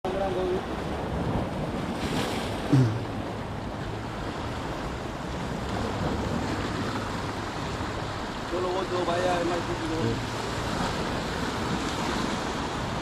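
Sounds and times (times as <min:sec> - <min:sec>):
sea washing: 0:00.0 - 0:13.0.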